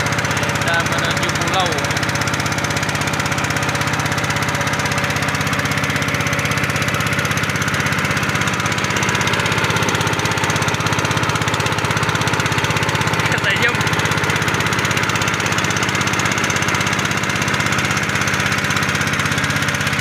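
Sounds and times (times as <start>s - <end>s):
small engine chugging: 0.0s - 20.0s.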